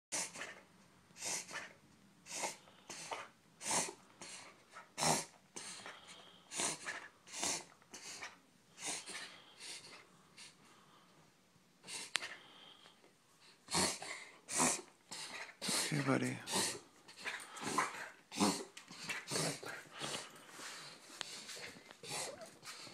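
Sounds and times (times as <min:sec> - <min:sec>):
dog's harsh rapid breathing: 0:01.2 - 0:10.6, 0:13.7 - 0:22.9.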